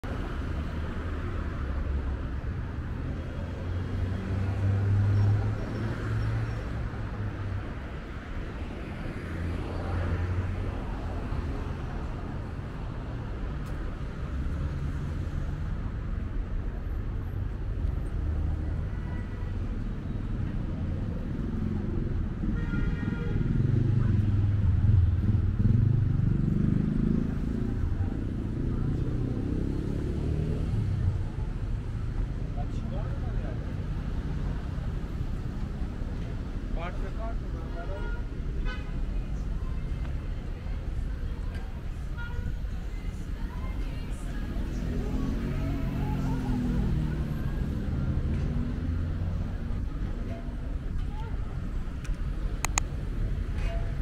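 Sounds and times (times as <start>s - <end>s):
cars passing: 0.0s - 22.5s, 23.2s - 54.0s.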